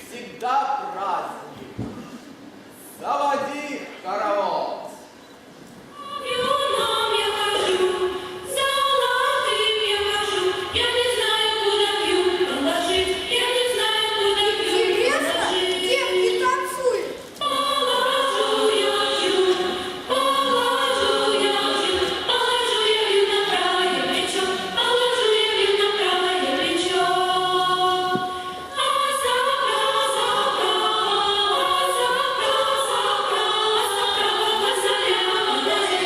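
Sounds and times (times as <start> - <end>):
choir singing: 5.9 - 36.0.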